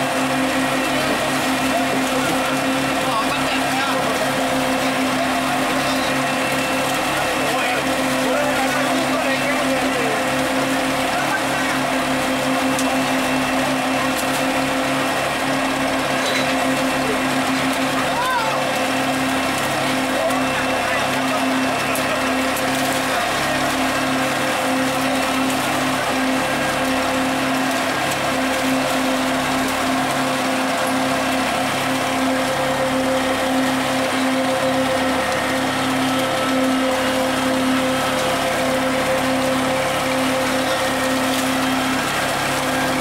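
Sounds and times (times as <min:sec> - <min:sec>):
boat engine throbbing: 0:00.0 - 0:43.0.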